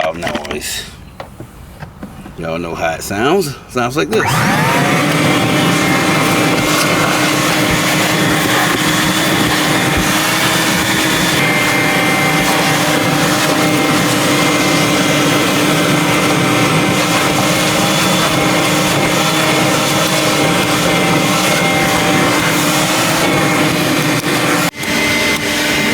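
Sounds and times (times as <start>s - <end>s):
vacuum cleaner running: 4.1s - 25.9s.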